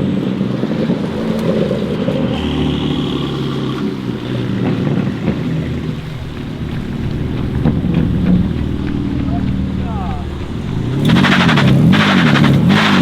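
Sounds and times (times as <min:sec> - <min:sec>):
sports car exhaust drone: 0:00.0 - 0:13.0.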